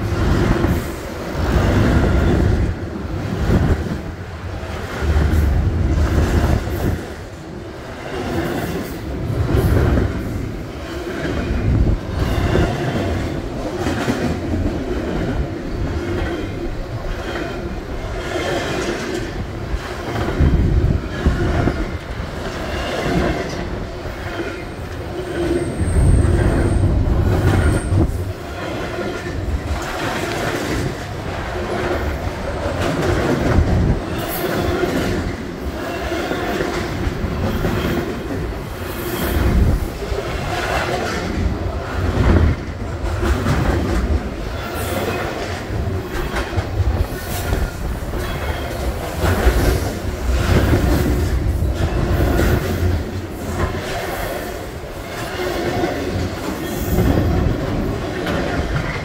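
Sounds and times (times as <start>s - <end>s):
train cars clanking and rattling: 0.0s - 59.0s
train wheels rumbling on rail: 0.0s - 59.0s.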